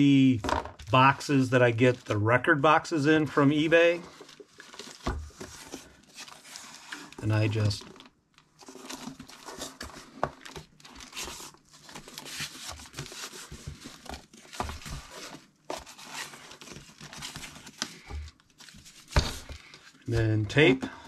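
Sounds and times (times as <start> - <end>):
cardboard scraping and creasing: 3.6 - 20.8.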